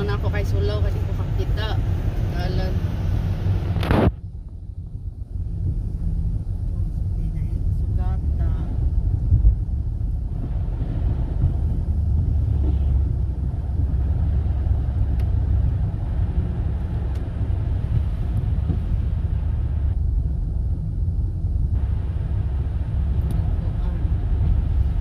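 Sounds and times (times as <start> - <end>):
car engine rumble: 0.0 - 25.0
tyres on snowy road: 0.0 - 25.0.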